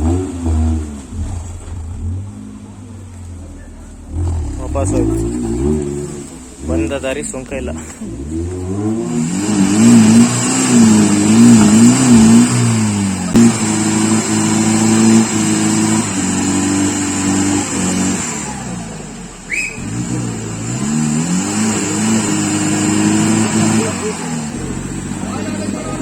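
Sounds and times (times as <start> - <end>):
jeep engine revving: 0.0 - 26.0.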